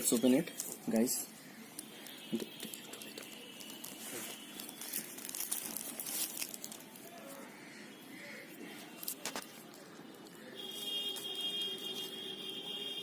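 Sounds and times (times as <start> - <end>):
packaging crinkling and tearing: 0.0 - 12.2.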